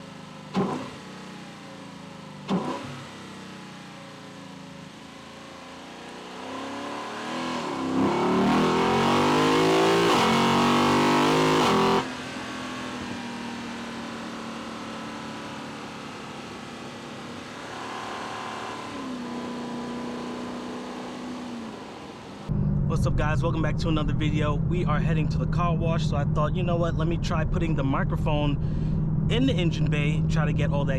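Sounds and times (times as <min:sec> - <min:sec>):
car engine revving and accelerating: 0:00.0 - 0:30.9
engine running steady: 0:00.0 - 0:30.9.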